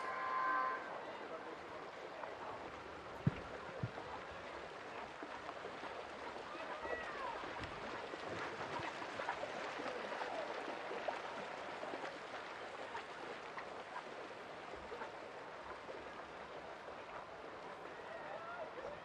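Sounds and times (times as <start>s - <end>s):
paddle blades splashing: 0.0s - 19.0s
small splashes: 0.0s - 19.0s
steady wash of water: 0.0s - 19.0s.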